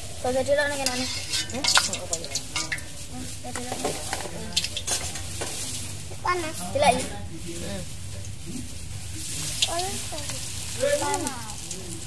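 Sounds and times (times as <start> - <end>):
leaves frying in hot oil: 0.0 - 12.0.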